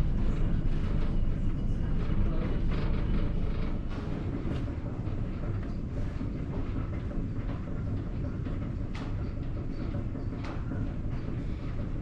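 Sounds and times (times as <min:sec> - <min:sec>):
mill machinery rattling hum: 0:00.0 - 0:12.0.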